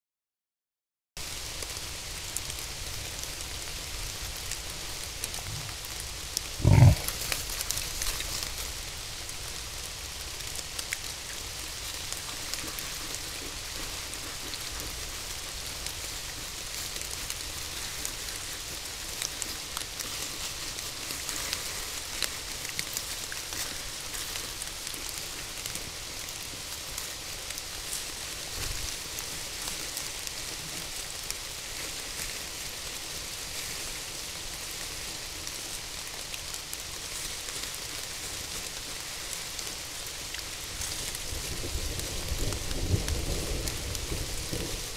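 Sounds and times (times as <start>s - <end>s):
steady rain on leaves: 1.2s - 44.9s.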